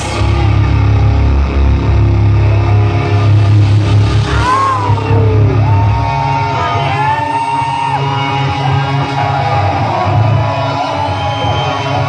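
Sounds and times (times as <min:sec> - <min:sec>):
bass: 0:00.0 - 0:12.0
distorted electric guitar: 0:00.0 - 0:12.0
drums: 0:00.0 - 0:12.0.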